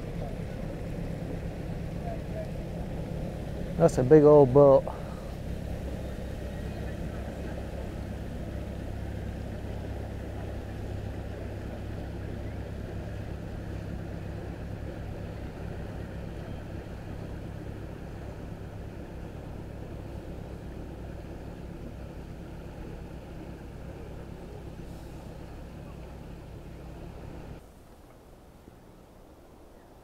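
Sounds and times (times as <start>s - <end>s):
boat engine drone: 0.0s - 30.0s.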